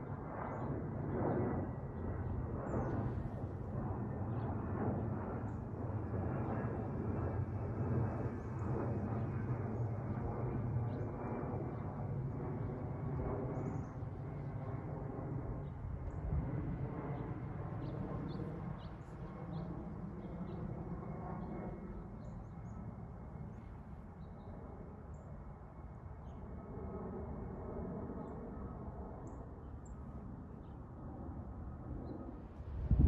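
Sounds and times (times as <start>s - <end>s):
jet airliner engine roar: 0.0s - 33.0s.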